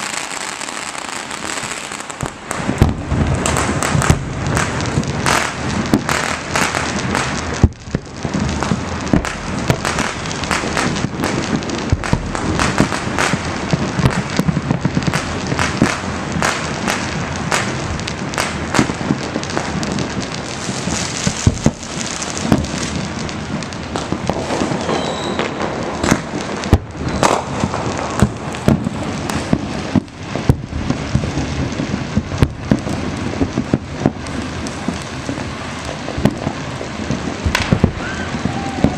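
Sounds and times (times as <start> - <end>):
firecracker bangs: 0.0 - 38.9
fireworks crackling: 0.0 - 38.9.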